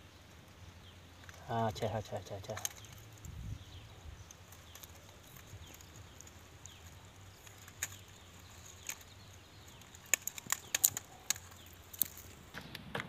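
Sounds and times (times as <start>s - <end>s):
dry leaves crackling as lit: 0.0s - 13.0s.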